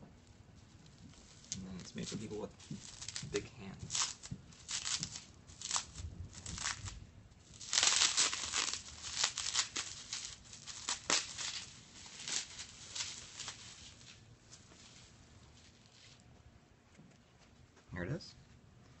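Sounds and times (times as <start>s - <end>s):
bubble wrap crinkling and tearing: 0.6s - 16.3s.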